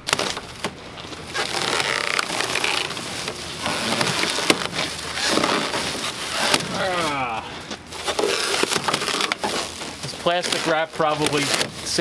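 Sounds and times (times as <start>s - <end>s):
plastic stretch wrap ripping: 0.0s - 7.3s, 7.9s - 12.0s.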